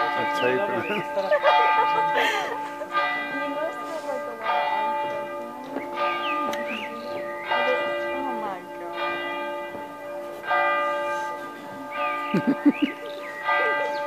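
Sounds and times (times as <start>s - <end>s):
church bell tolling: 0.0s - 14.0s.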